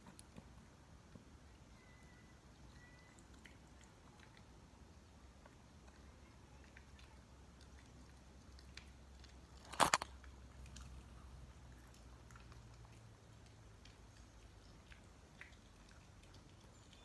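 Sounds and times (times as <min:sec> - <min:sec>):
pet chewing food: 0:01.8 - 0:17.0.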